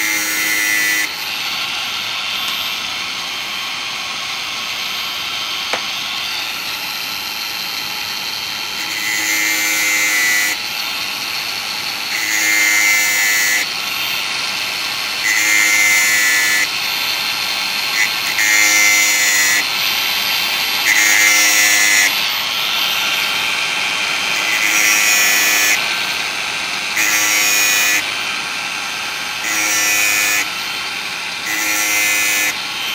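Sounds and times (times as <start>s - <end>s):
angle grinder whining: 0.0s - 32.9s.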